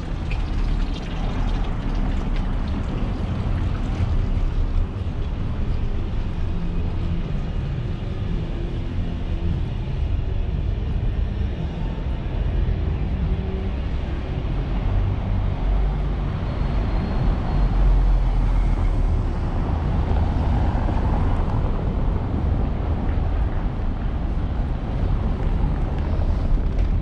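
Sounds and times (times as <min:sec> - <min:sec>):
town street rumble: 0:00.0 - 0:27.0.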